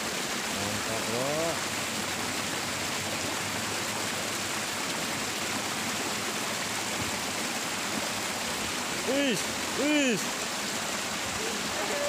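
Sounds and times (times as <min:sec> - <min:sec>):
water rushing in a ditch: 0:00.0 - 0:12.0.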